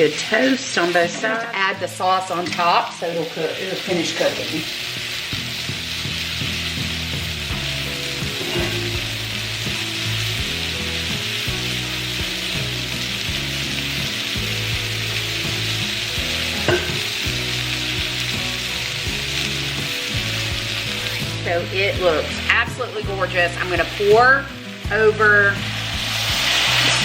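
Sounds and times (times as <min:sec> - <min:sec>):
meat sizzling in oil: 0:00.0 - 0:27.0.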